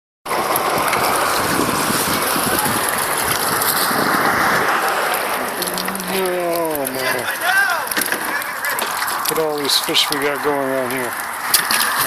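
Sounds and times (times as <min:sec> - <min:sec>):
water rushing along shore: 0:00.3 - 0:12.0
wind buffeting microphone: 0:00.3 - 0:12.0.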